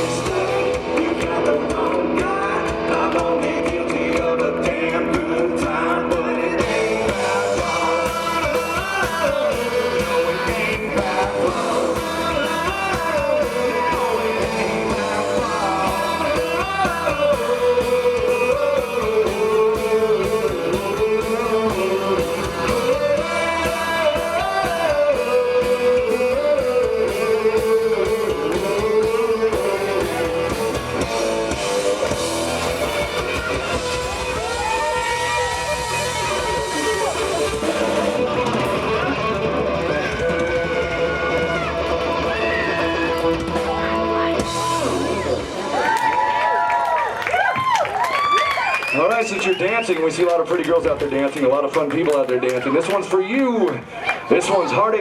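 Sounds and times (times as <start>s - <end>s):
lead guitar bending notes: 0.0s - 45.9s
rock band playing loudly: 0.0s - 55.0s.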